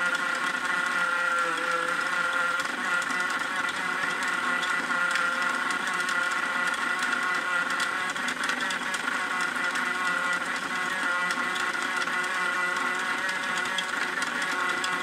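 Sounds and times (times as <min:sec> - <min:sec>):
toy washing machine motor whine: 0:00.0 - 0:15.0.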